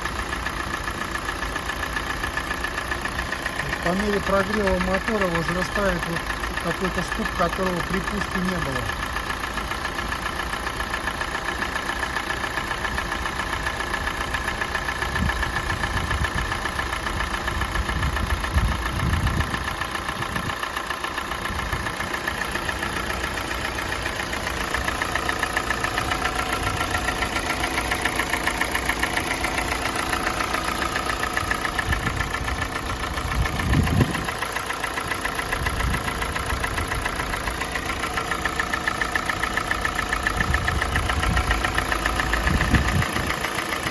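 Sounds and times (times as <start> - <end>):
car engine idling with knock: 0.0 - 43.9.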